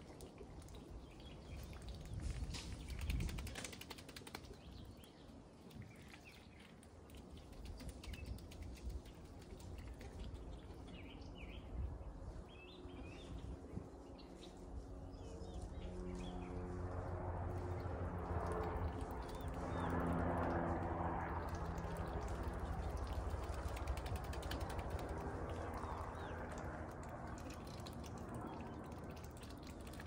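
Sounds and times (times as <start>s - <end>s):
faint low rumble: 4.4s - 30.0s.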